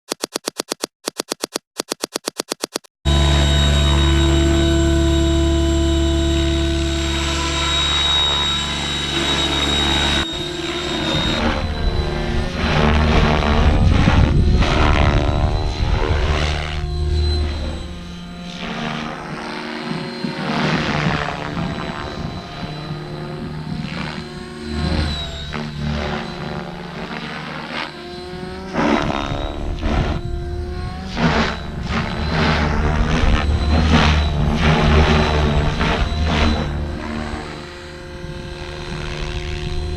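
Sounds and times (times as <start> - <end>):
rc helicopter rotor and motor: 0.1 - 39.9
thin high whine: 3.1 - 39.9.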